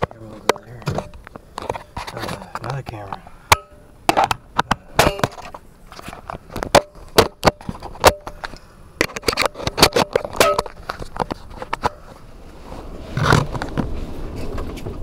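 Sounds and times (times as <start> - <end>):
phone handling noise: 0.0 - 12.2.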